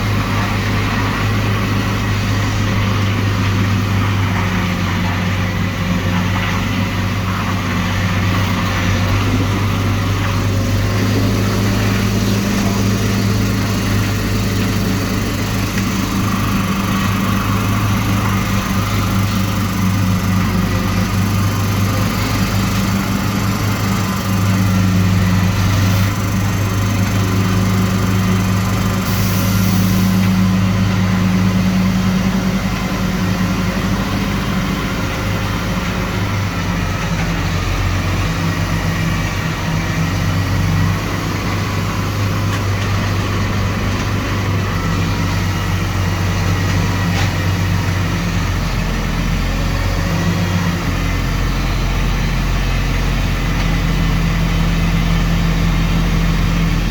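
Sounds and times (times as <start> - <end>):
diesel engine humming: 0.0 - 56.9.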